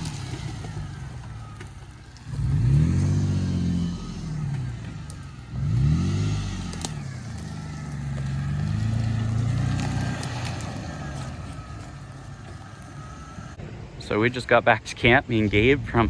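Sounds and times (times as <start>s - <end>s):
truck engine revving: 0.0s - 13.8s.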